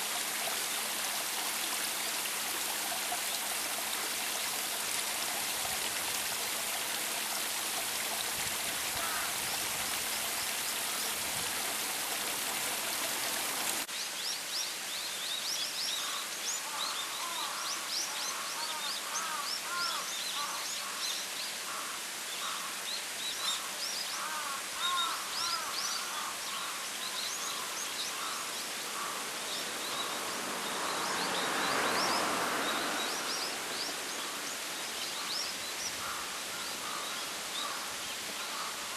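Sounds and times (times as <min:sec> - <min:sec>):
waterfall rushing and splashing: 0:00.0 - 0:15.9, 0:16.7 - 0:38.9.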